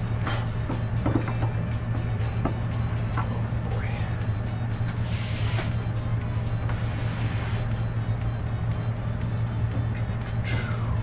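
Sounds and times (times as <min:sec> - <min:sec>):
background music with low drone: 0:00.0 - 0:11.0.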